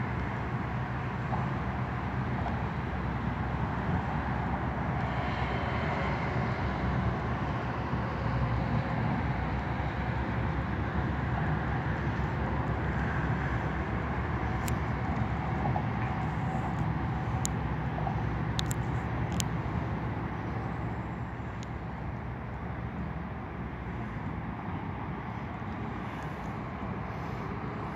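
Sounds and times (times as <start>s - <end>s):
rumbling outdoor background noise: 0.0s - 27.9s.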